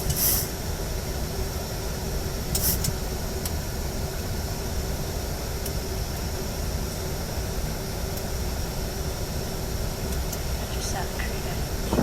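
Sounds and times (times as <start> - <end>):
airflow and air-conditioning hiss: 0.0 - 12.0
faint steady hum: 0.0 - 12.0.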